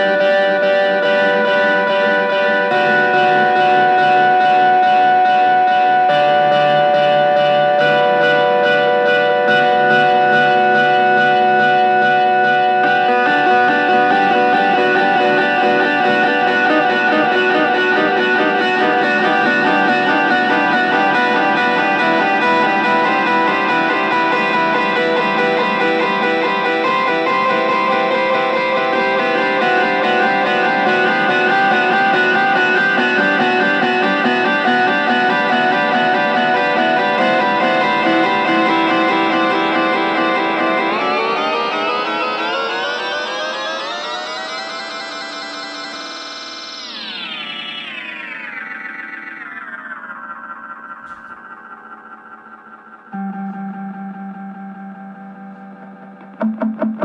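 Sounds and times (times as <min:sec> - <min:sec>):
electric guitar with delay: 0:00.0 - 0:57.0.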